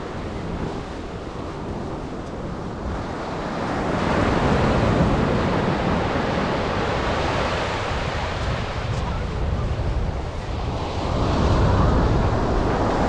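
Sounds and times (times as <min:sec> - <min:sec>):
wave breaking on beach: 0:00.0 - 0:13.0.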